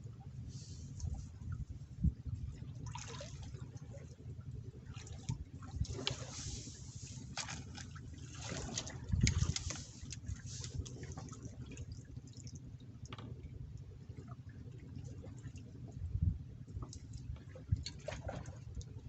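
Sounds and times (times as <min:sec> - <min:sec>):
water splashing and trickling: 0:00.5 - 0:16.0, 0:16.8 - 0:19.0.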